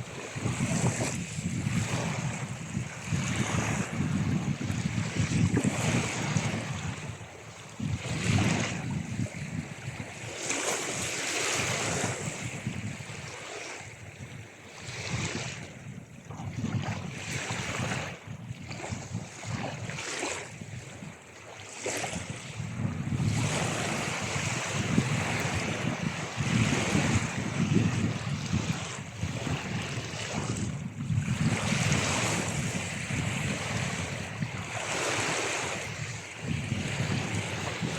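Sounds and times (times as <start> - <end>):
ocean waves breaking on shore: 0.0 - 37.9.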